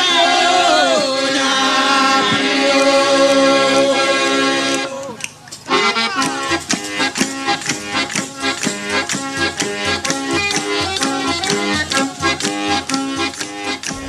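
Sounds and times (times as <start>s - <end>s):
folk music: 0.0s - 14.0s.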